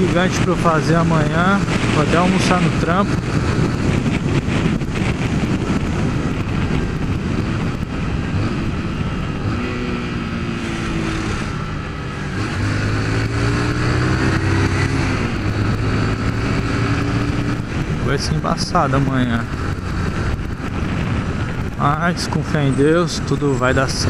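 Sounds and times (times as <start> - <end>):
motorcycle engine running: 0.0 - 23.2
wind rushing over microphone: 0.0 - 24.0.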